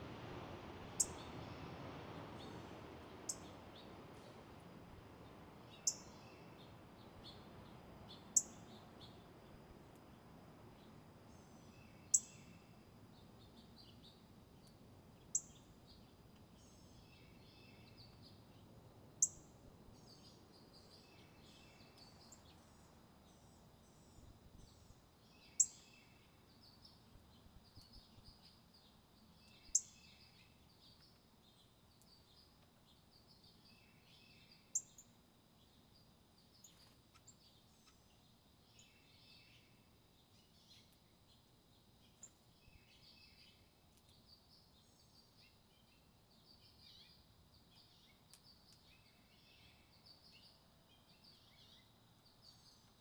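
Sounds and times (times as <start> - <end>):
songbirds calling: 0.9 - 53.0.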